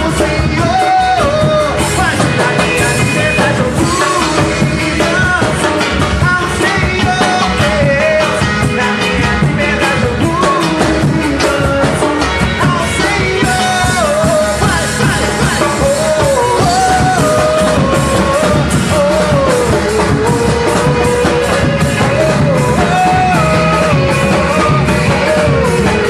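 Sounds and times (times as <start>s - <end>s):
band playing upbeat rock song: 0.0s - 26.0s
steady drum beat: 0.0s - 26.0s.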